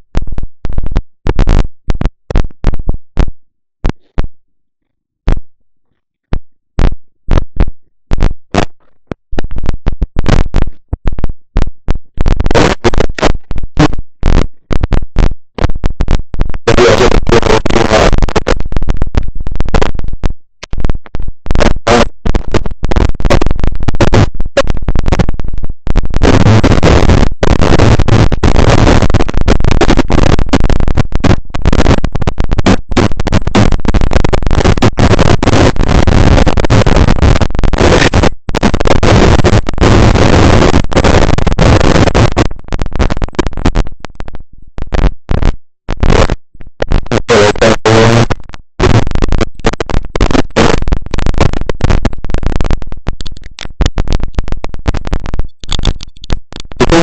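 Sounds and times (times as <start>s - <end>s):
microphone static crackling hiss: 0.0s - 57.0s.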